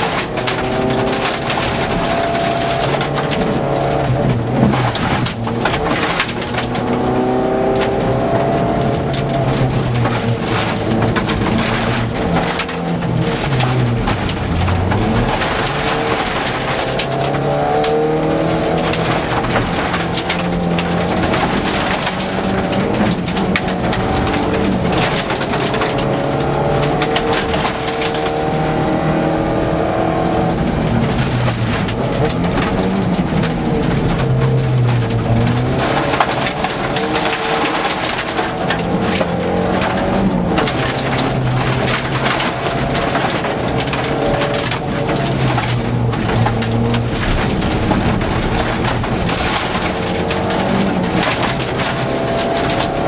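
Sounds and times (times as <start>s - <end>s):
gravel clattering against underbody: 0.0s - 53.0s
rally car engine revving: 0.0s - 53.0s.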